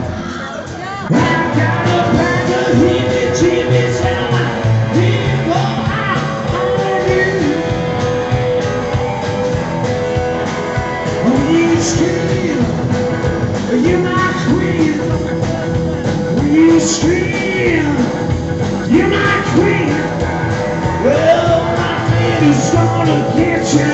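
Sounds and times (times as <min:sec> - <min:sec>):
live rockabilly band: 0:00.0 - 0:23.9.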